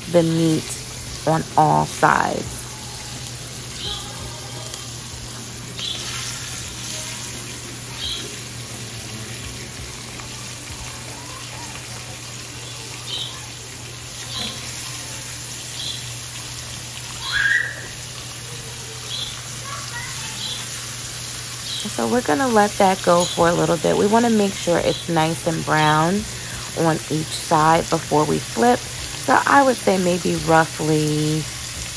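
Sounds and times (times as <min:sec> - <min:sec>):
meat sizzling in oil: 0:00.0 - 0:31.9.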